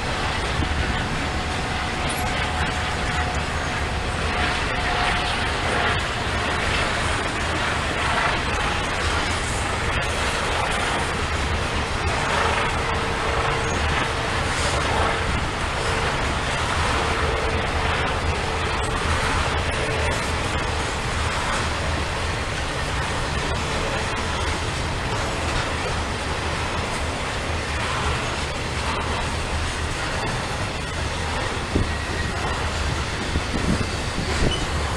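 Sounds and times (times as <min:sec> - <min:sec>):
train wheels rumbling on rail: 0:00.0 - 0:34.9.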